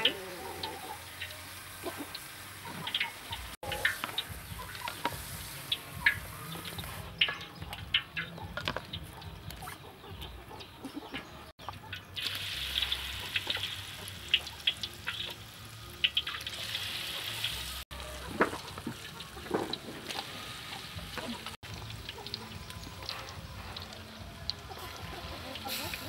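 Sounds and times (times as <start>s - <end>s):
meatballs sizzling in hot oil: 0.0s - 8.0s, 11.6s - 26.0s.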